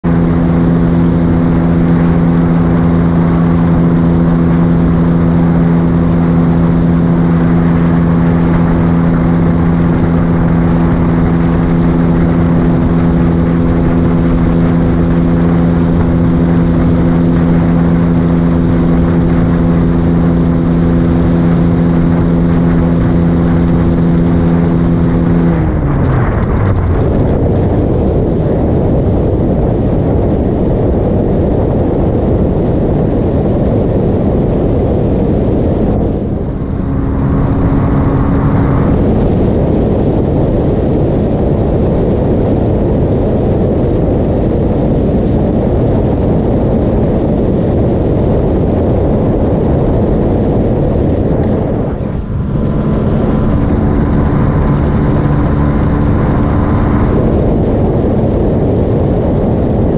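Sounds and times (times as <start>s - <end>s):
motorcycle engine cruising: 0.0s - 59.9s
wind rush: 0.0s - 59.9s.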